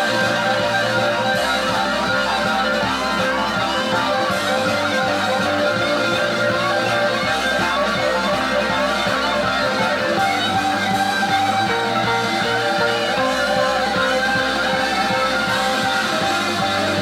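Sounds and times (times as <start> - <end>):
electric guitar solo: 0.0 - 17.0
rhythm guitar bass and drums: 0.0 - 17.0.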